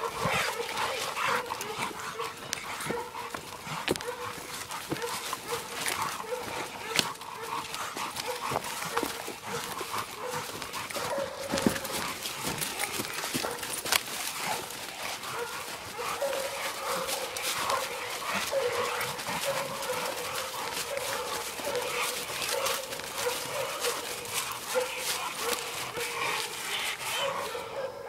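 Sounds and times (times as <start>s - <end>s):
dogs baying and barking: 0.0s - 28.0s.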